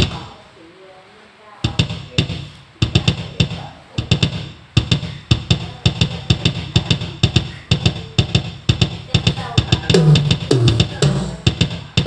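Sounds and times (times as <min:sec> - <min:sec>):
electronic drum beat: 0:00.0 - 0:00.4, 0:01.6 - 0:12.0.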